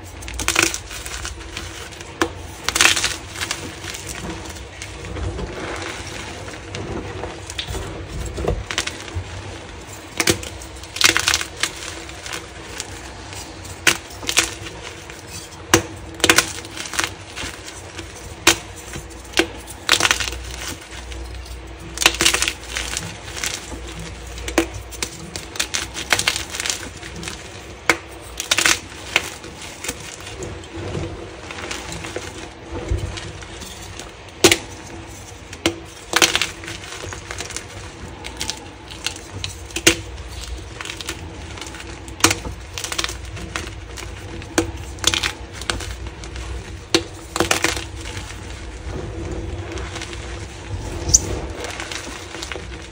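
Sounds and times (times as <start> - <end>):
chalk chunks snapping: 0.0 - 6.6, 7.4 - 30.5, 31.4 - 52.9
chalk powder crunching: 0.0 - 52.9.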